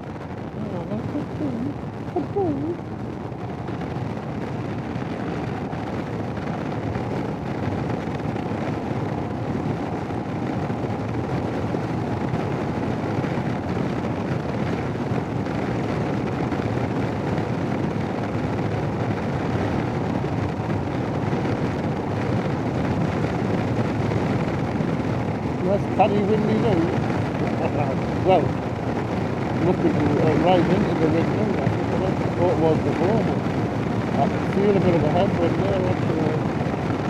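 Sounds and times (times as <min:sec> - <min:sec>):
vehicle road noise: 0:00.0 - 0:37.0
wind rushing over microphone: 0:00.0 - 0:37.0.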